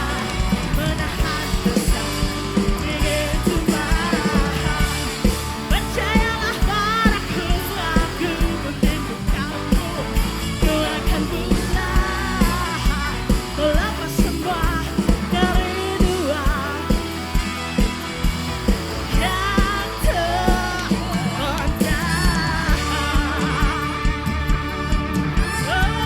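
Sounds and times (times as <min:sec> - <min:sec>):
person singing with vibrato: 0:00.0 - 0:17.4, 0:19.1 - 0:26.0
live band playing: 0:00.0 - 0:26.0
steady drum beat: 0:00.0 - 0:26.0.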